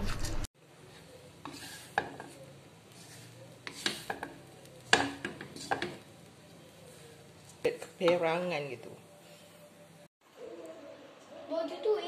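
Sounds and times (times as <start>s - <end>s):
wooden spatula scraping wok: 0.0s - 9.8s.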